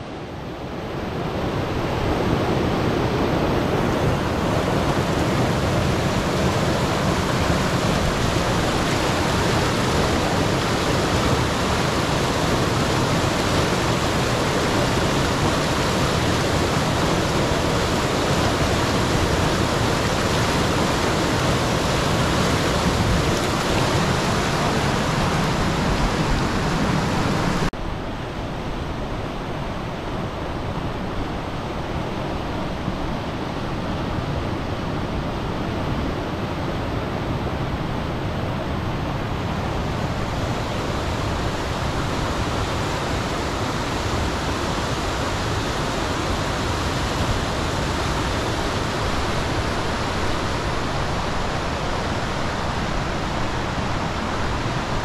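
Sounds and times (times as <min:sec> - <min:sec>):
whitewater rushing in creek rapid: 0:00.0 - 0:55.0.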